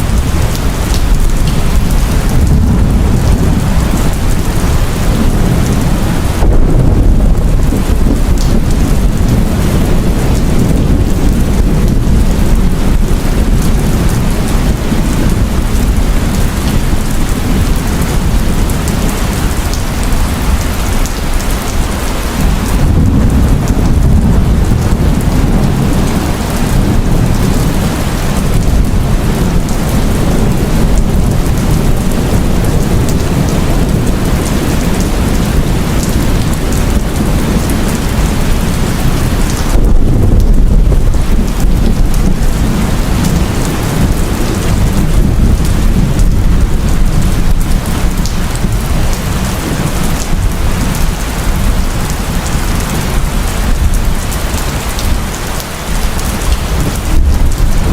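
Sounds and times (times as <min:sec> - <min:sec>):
heavy rain pouring: 0:00.0 - 0:57.9
low rumble of thunder: 0:00.0 - 0:57.9.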